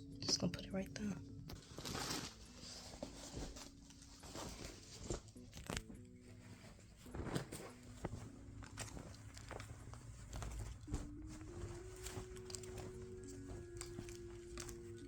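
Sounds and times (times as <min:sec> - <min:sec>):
faint background music: 0:00.0 - 0:15.0
belongings being handled: 0:00.1 - 0:15.0.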